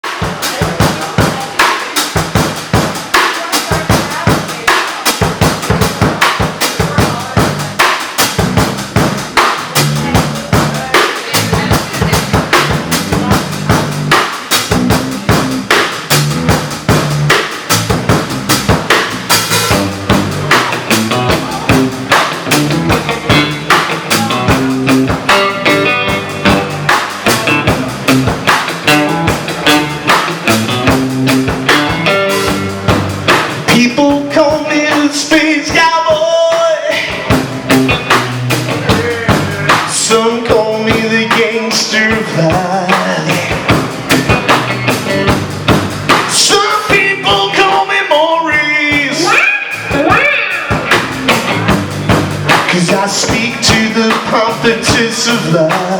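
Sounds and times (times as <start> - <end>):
drum kit beat: 0.0 - 55.9
rock band playing: 0.0 - 55.9
low bass notes: 5.4 - 34.8, 37.2 - 55.9.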